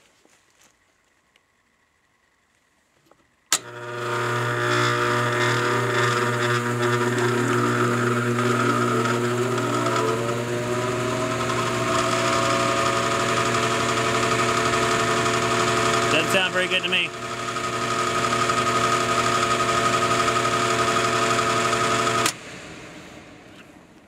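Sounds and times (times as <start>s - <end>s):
blower motor humming: 3.5s - 23.4s.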